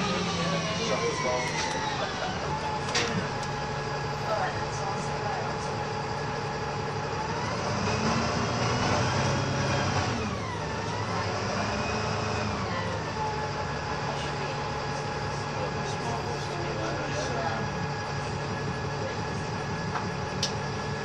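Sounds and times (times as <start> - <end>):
bus engine whining under acceleration: 0.0 - 21.0.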